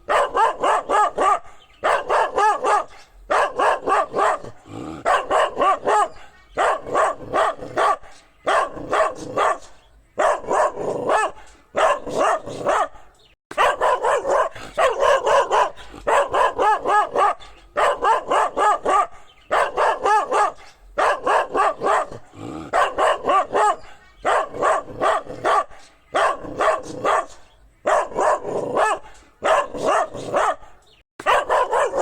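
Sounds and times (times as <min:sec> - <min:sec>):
dog barking: 0:00.0 - 0:32.0.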